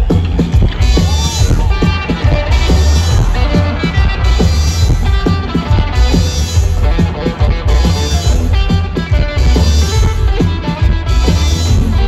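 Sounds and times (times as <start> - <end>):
drums: 0.0 - 12.0
electric guitar: 0.0 - 12.0.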